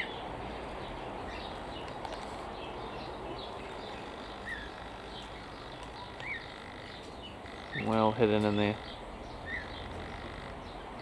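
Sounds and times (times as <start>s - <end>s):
outdoor background hiss: 0.0s - 11.0s
small birds chirping: 0.0s - 11.0s.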